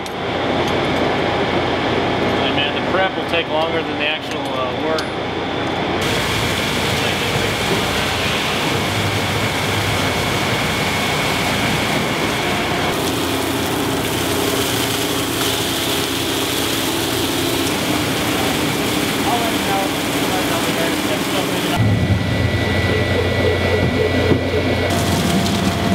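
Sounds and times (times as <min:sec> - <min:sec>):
high machine whine: 0:00.0 - 0:25.9
low machine hum: 0:00.0 - 0:25.9
machinery drone: 0:00.0 - 0:25.9.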